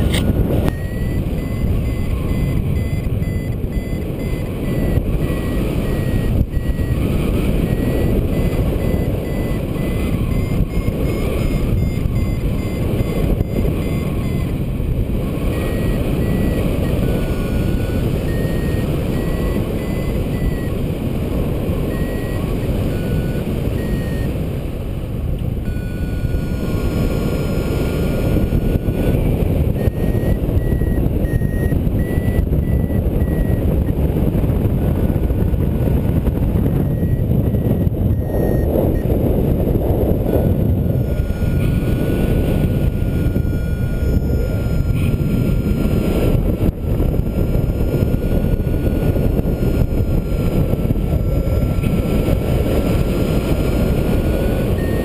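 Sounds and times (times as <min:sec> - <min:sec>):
variometer beeping: 0:00.0 - 0:24.5, 0:25.4 - 0:35.4, 0:36.0 - 0:55.0
steady low tone: 0:00.0 - 0:55.0
wind noise on microphone: 0:00.0 - 0:55.0.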